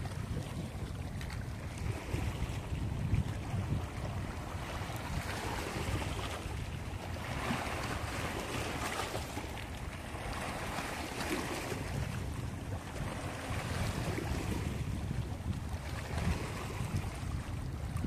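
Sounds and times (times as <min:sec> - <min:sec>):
waves lapping over rocks: 0:00.0 - 0:18.0
wind on microphone: 0:00.0 - 0:18.0.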